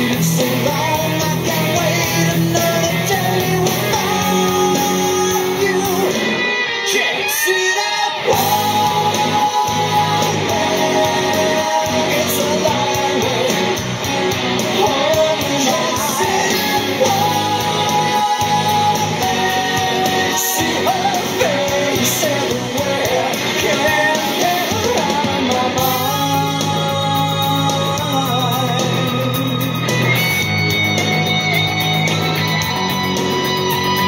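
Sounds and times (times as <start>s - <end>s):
electric guitar: 0.0s - 34.0s
rock song with singing: 0.0s - 34.0s.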